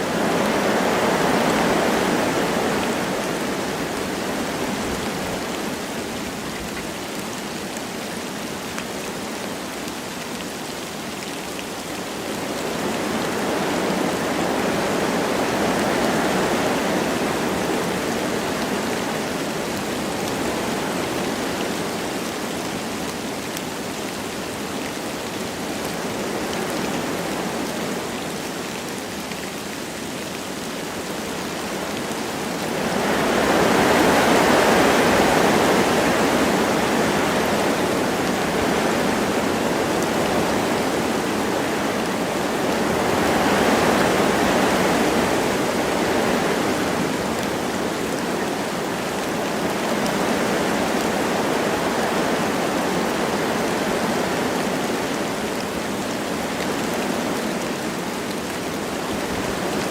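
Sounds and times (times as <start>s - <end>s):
light rain falling: 0.0s - 59.9s
wind rushing through trees: 0.0s - 59.9s.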